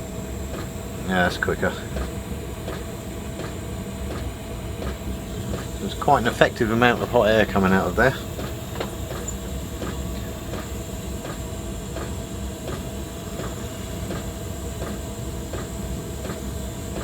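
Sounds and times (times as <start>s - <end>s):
fuel pump ticking: 0.0s - 17.0s
gas torch hissing: 0.0s - 17.0s
heater blowing: 0.0s - 17.0s.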